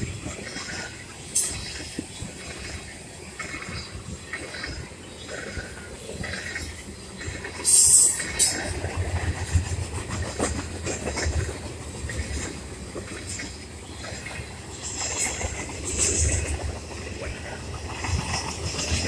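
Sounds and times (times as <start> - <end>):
freight train rumbling past: 0.0 - 19.0
wheels clicking over rail joints: 0.0 - 19.0.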